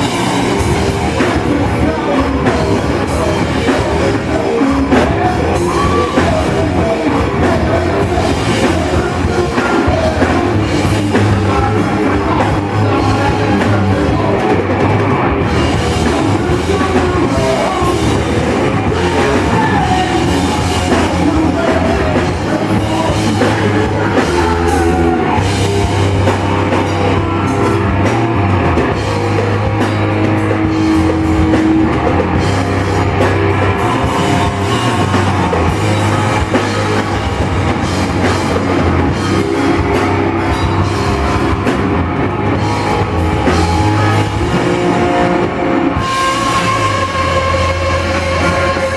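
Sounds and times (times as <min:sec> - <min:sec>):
loud rock music with drums: 0:00.0 - 0:48.9.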